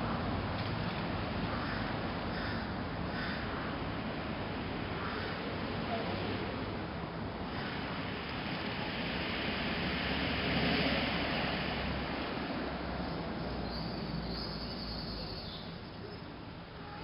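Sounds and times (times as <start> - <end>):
distant traffic rushing: 0.0 - 17.0.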